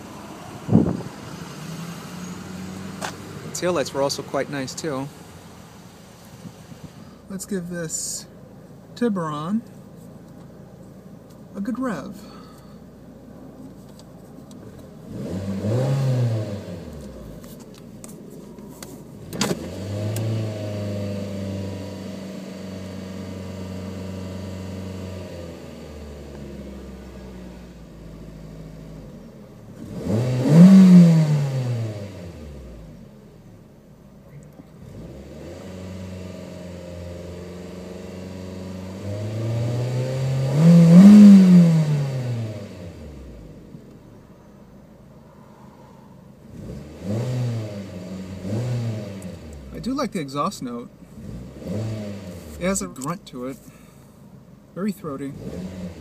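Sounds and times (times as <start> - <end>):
car engine revving: 0.0 - 8.3, 14.7 - 33.6, 34.5 - 56.0.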